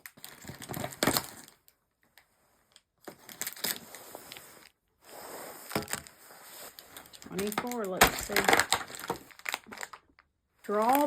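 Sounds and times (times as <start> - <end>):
cardboard and wrapper crinkling: 0.0 - 4.8, 5.6 - 11.0.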